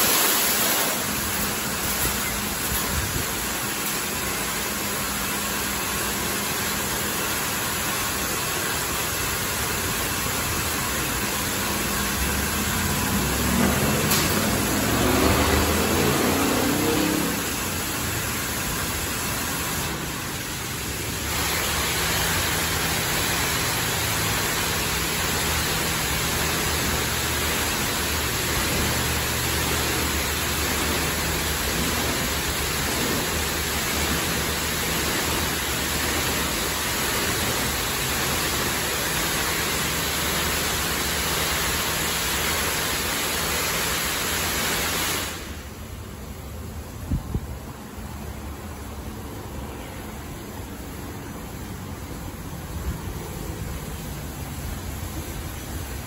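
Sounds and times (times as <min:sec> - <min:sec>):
high-pressure water spray hissing: 0:00.0 - 0:47.1, 0:47.7 - 0:56.0.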